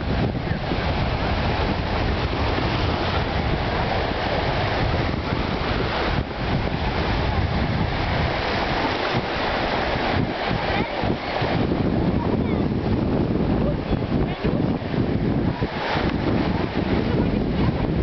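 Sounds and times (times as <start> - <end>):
sea surf rushing: 0.0 - 18.0
wind buffeting microphone: 0.0 - 18.0.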